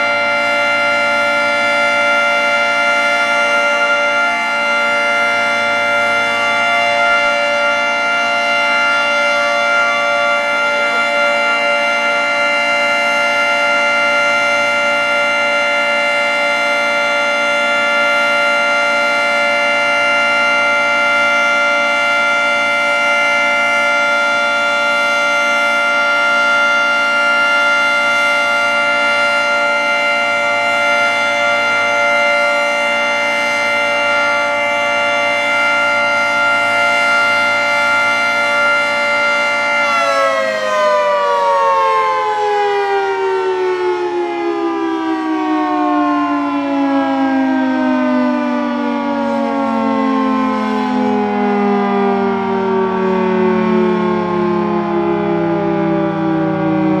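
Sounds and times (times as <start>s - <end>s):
three-tone warning siren: 0.0s - 57.0s.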